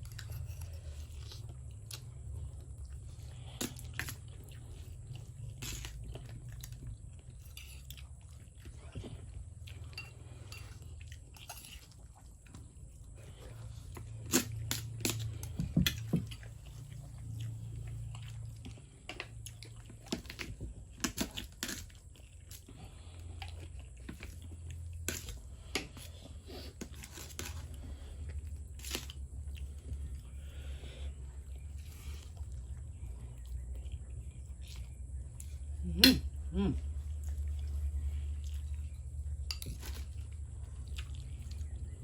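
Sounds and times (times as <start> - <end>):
person chewing crunchy food: 0.0 - 42.0
steady low hum: 0.0 - 42.0.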